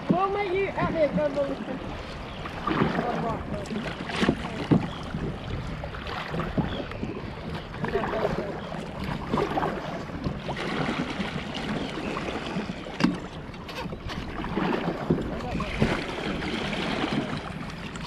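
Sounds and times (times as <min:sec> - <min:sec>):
river water splashing: 0:00.0 - 0:18.0
wind on microphone: 0:00.0 - 0:18.0.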